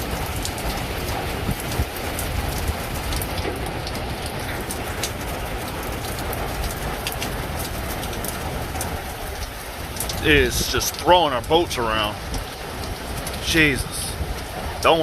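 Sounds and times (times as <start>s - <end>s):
heavy rain falling: 0.0s - 15.0s
low wind rumble: 0.0s - 15.0s
raindrops ticking close by: 0.0s - 15.0s.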